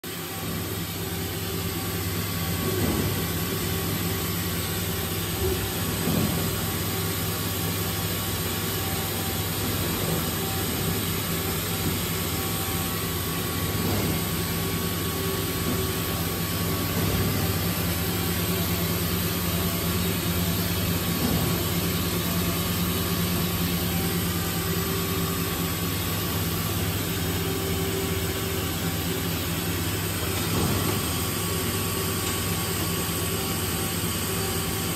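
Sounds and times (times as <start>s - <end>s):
machine hum with held tones: 0.0s - 34.9s.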